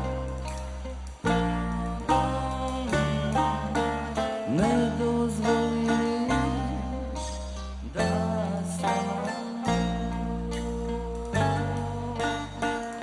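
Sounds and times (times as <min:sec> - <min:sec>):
plucked string band music: 0:00.0 - 0:13.0.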